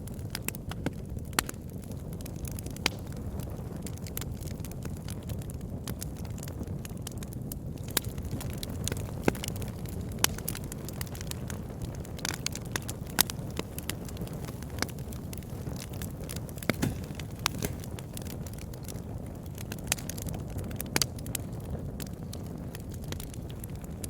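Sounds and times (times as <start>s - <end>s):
burning wood crackling and popping: 0.0s - 24.0s
campfire low rumble: 0.0s - 24.0s.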